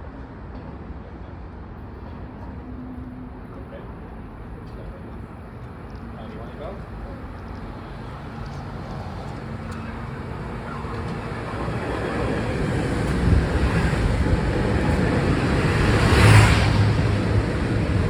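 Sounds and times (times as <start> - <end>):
electric train rumbling: 1.4 - 18.0.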